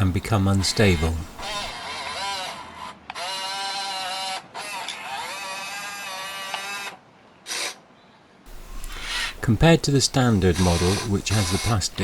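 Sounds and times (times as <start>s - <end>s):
electric motors and gears whining: 0.0s - 7.8s, 8.5s - 12.0s.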